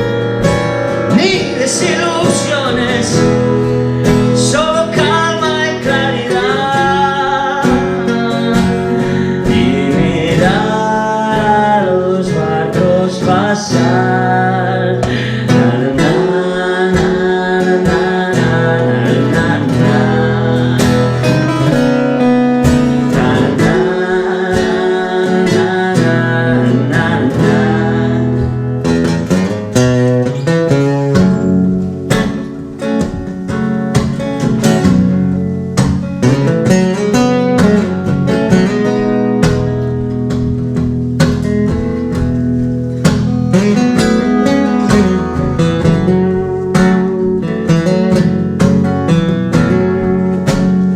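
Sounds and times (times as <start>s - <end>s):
acoustic guitar strummed chords: 0.0s - 50.9s
picked guitar melody: 0.0s - 50.9s.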